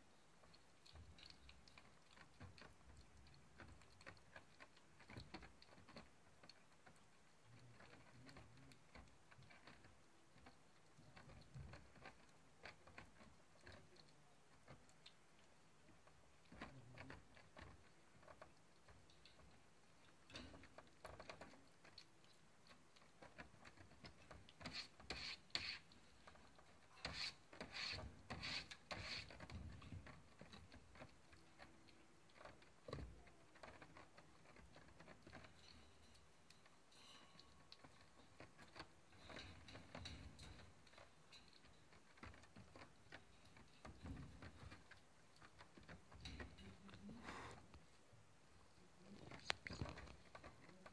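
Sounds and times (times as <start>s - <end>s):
kitten crunching dry kibble: 0.0s - 50.9s.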